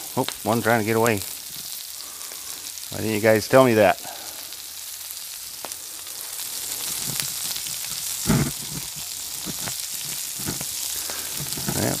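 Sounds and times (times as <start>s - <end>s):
vegetables sizzling on a griddle: 0.0s - 12.0s.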